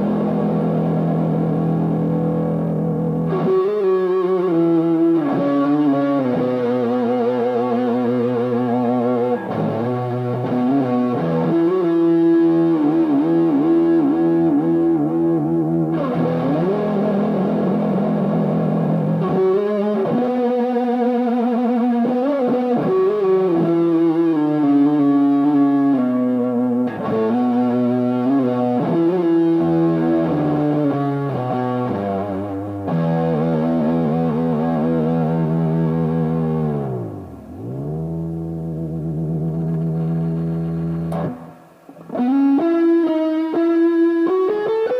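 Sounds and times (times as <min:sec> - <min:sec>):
distorted electric guitar notes: 0:00.0 - 0:44.9.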